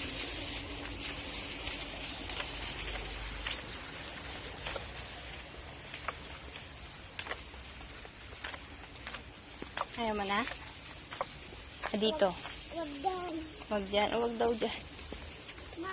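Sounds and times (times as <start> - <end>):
footsteps on pavement: 0.0 - 15.9
steady high hiss: 0.0 - 15.9.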